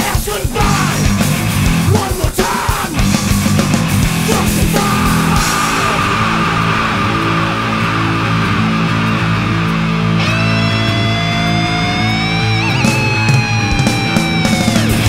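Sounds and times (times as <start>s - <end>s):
bass guitar: 0.0s - 15.0s
distorted electric guitar: 0.0s - 15.0s
drums: 0.0s - 15.0s.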